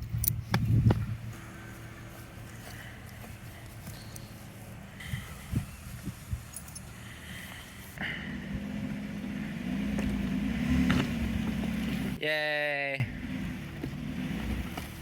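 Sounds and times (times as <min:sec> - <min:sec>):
car engine running: 0:00.0 - 0:12.2, 0:13.0 - 0:15.0.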